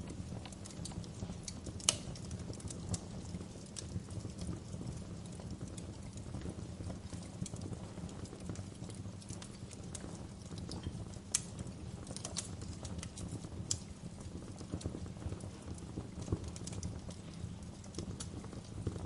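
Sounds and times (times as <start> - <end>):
fire crackling and popping: 0.0 - 19.0
low fire rumble: 0.0 - 19.0.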